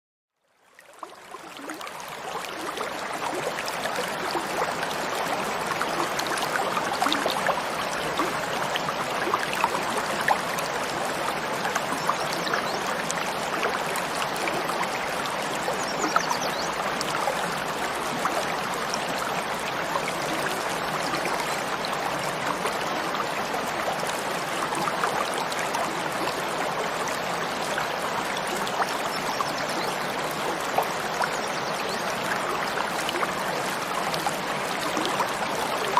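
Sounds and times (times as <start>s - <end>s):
stream flowing over rocks: 0.5s - 35.9s
water splashing and gurgling: 0.8s - 35.9s.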